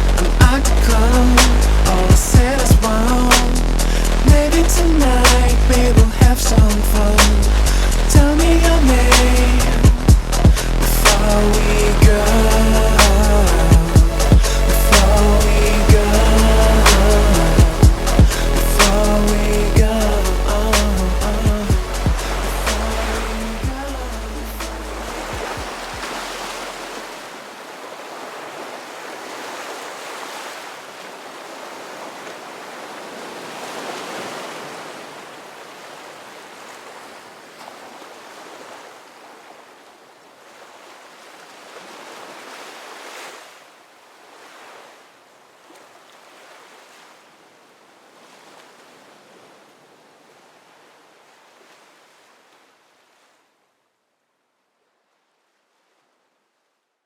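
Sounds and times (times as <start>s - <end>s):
rushing water: 0.0s - 53.6s
wind: 0.0s - 57.0s.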